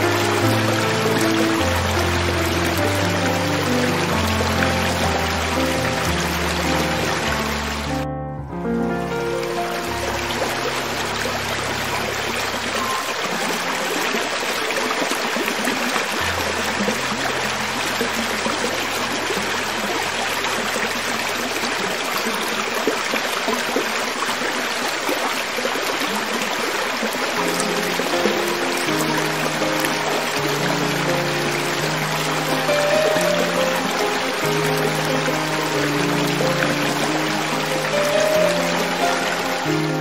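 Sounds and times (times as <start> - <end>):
creek water running over rocks: 0.0 - 8.1, 9.0 - 40.0.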